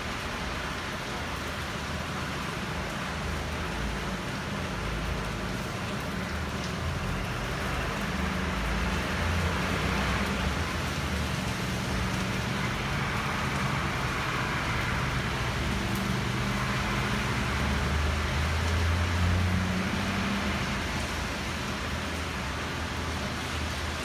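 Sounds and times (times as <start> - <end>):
heavy rain: 0.0 - 24.0.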